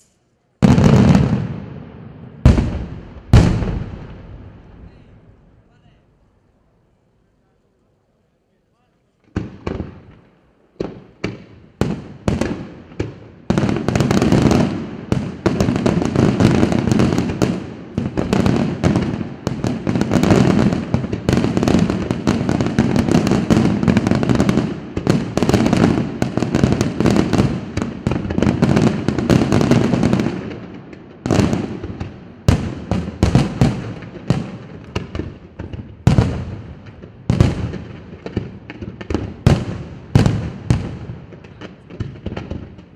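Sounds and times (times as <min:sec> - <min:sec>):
fireworks bursting with bangs: 0:00.0 - 0:05.7, 0:09.2 - 0:42.9.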